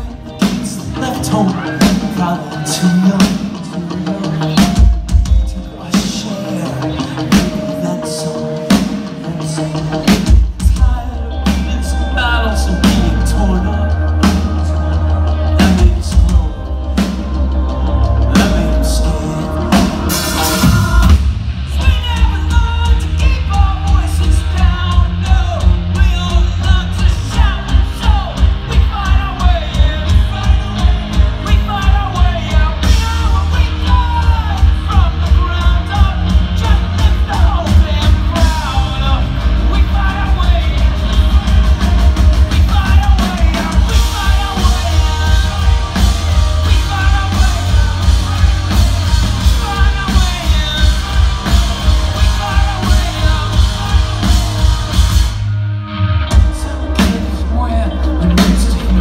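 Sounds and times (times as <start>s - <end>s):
person singing: 0.0s - 55.5s, 56.1s - 59.0s
steady drum beat: 0.0s - 55.6s, 56.3s - 59.0s
live rock band playing: 0.0s - 59.0s.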